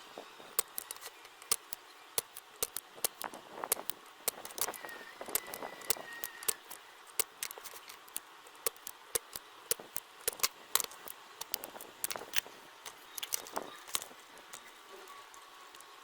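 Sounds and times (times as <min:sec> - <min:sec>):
small hand tools clicking and tapping: 0:00.6 - 0:14.7.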